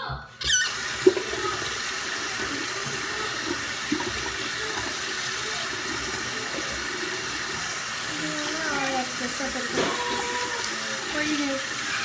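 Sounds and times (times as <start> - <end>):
water running from a tap: 0.4 - 12.0.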